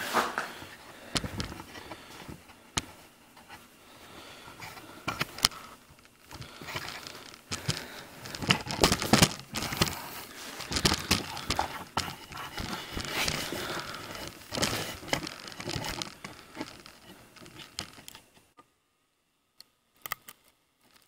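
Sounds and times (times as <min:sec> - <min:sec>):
rustling: 0:00.0 - 0:18.5.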